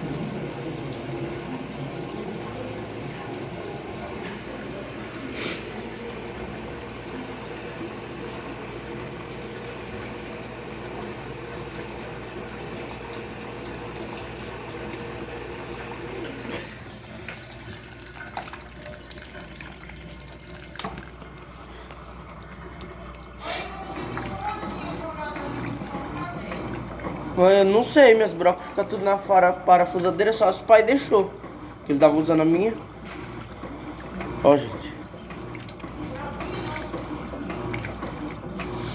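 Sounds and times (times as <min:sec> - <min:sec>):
water filling washing machine: 0:00.0 - 0:38.9.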